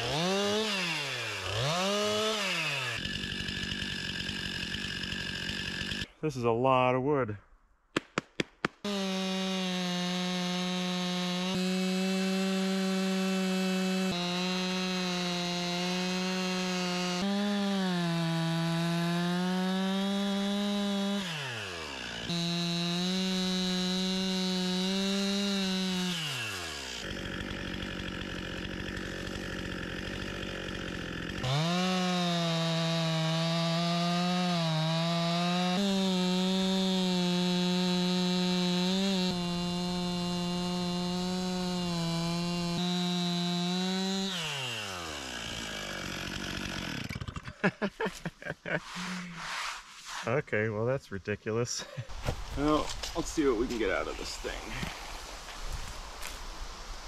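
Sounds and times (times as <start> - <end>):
chainsaw cutting log: 0.0 - 6.1, 8.0 - 50.2, 52.0 - 57.0.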